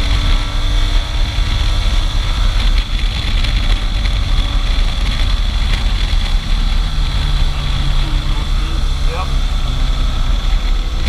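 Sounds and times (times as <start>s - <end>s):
motorcycle engine rumble: 0.0s - 11.0s
wind rush over microphone: 0.0s - 11.0s.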